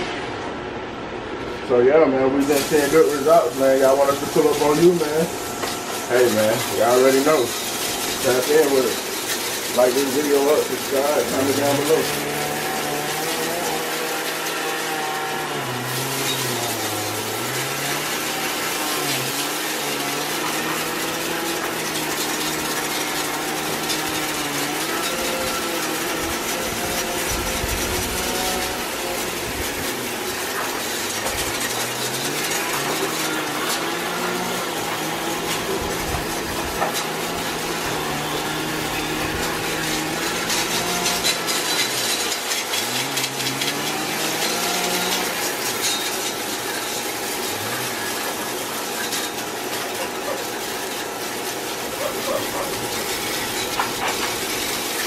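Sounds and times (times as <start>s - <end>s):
water spraying from hose onto metal: 0.0s - 55.0s.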